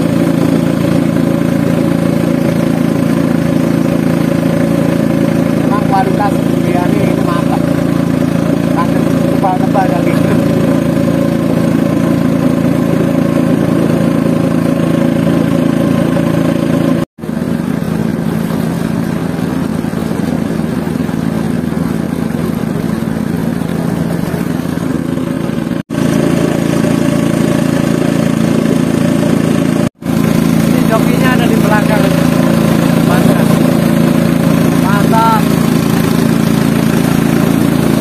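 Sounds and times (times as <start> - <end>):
boat engine running: 0.0 - 38.0
water rushing past hull: 0.0 - 38.0.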